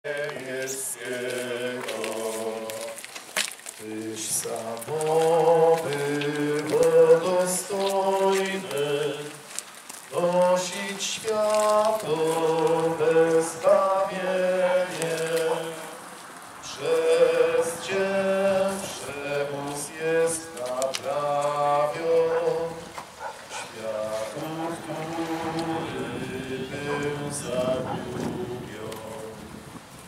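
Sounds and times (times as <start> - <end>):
group singing a hymn: 0.0 - 3.0, 3.8 - 29.6.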